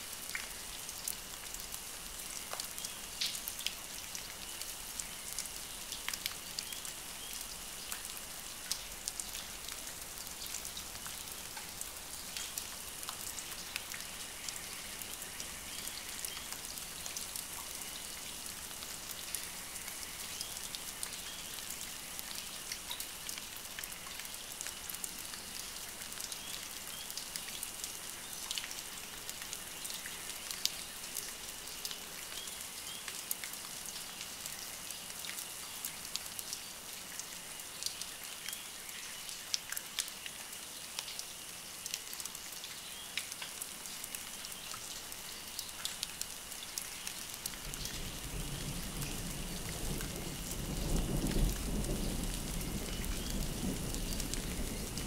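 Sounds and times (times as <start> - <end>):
soft steady hiss: 0.0 - 55.0.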